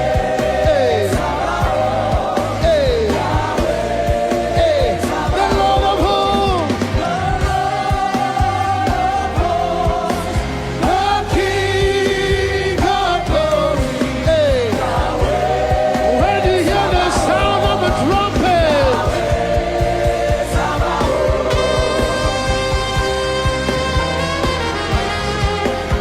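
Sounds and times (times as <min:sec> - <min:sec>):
gospel band playing: 0:00.0 - 0:26.0
sliding lead melody: 0:00.0 - 0:26.0.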